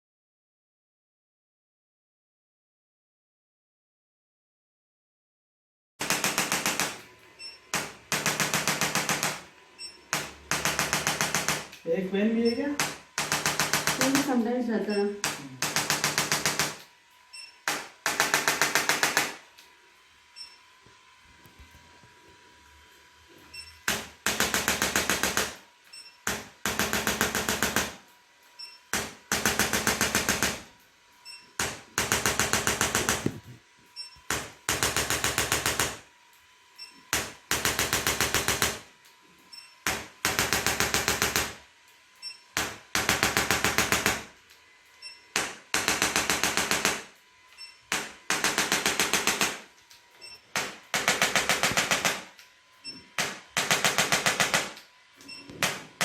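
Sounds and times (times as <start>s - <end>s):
electric massager rattling: 6.0s - 56.0s.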